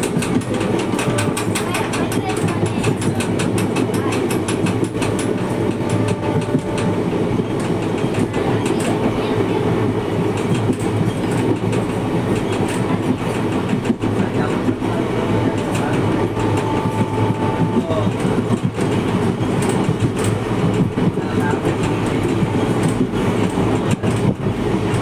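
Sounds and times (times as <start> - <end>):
rail joints clickety-clack: 0.0 - 25.0
train wheels rumbling on track: 0.0 - 25.0.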